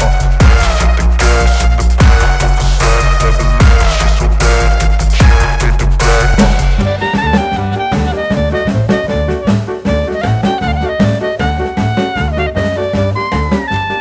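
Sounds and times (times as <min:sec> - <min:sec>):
upbeat jazz swing music: 0:00.0 - 0:14.0.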